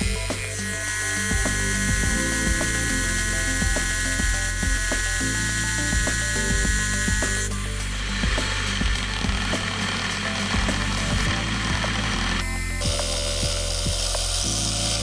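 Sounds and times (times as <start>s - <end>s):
background music: 0.0s - 15.0s
router bit whining through brass: 0.0s - 15.0s.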